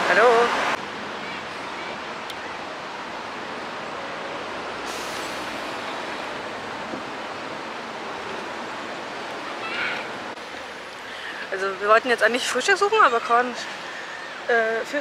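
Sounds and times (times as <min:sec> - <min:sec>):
city background noise: 0:00.0 - 0:15.0.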